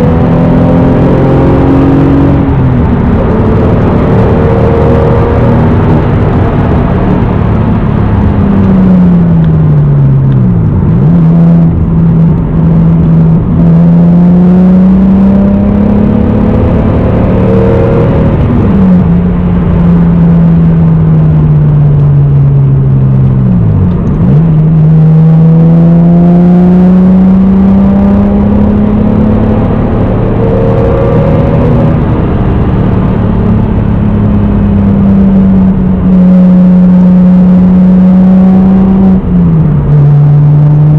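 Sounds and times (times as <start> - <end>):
car engine under load: 0.0 - 40.9.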